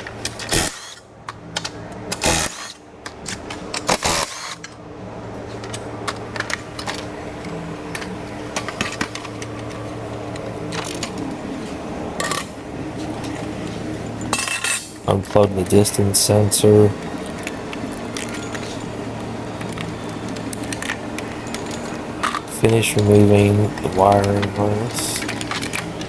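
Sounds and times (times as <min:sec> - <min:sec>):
plastic parts clicking and rattling: 0:00.0 - 0:04.8, 0:05.5 - 0:11.5, 0:14.3 - 0:26.0
steady low hum: 0:00.0 - 0:26.0.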